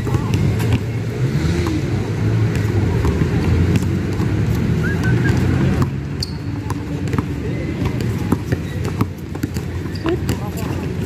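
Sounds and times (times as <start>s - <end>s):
basketball bouncing on hard court: 0.0s - 4.6s, 5.3s - 11.0s
low rumble of vehicle noise: 0.0s - 11.0s.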